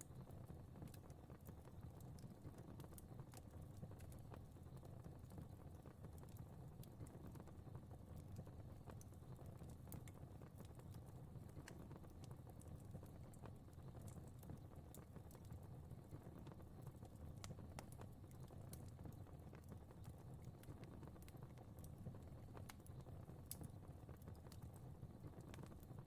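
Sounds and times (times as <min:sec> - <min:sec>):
fire crackling and popping: 0:00.0 - 0:26.0
low fire rumble: 0:00.0 - 0:26.0.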